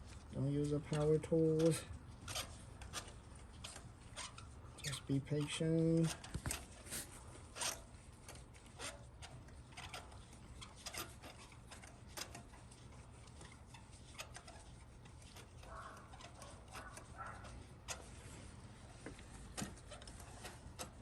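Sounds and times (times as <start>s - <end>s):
soft rubbing: 0.0s - 21.0s.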